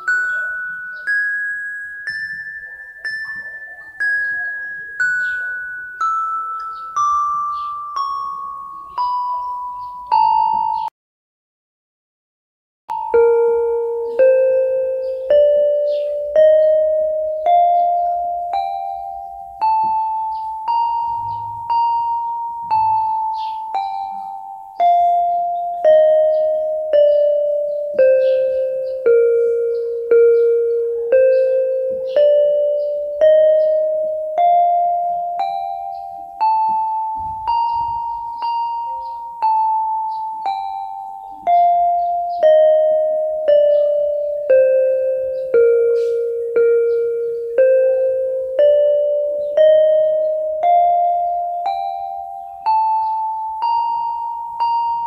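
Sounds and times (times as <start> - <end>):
electronic keyboard playing a scale: 0.0 - 10.9, 12.9 - 55.0.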